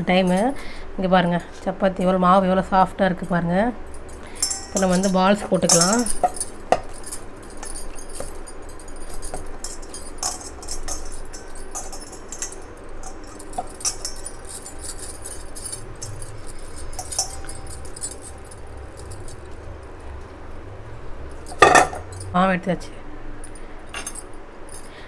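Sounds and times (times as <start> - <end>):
bangles jingling: 0.0 - 22.3, 23.4 - 25.0.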